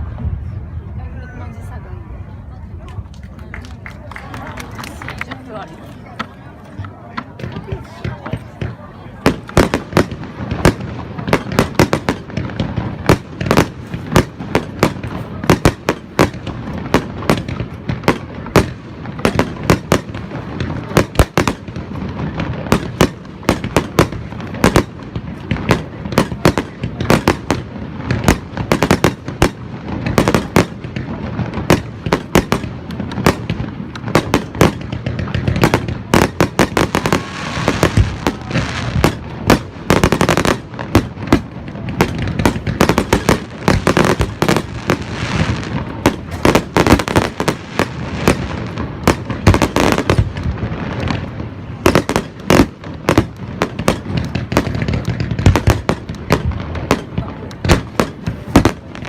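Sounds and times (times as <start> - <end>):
fireworks crackling: 0.0 - 59.0
fireworks bangs: 4.1 - 59.0.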